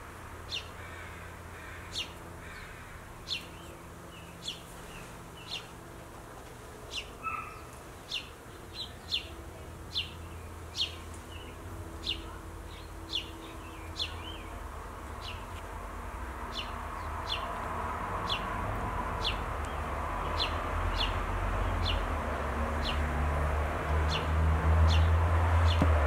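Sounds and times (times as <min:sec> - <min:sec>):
sparrows chirping: 0:00.3 - 0:25.9.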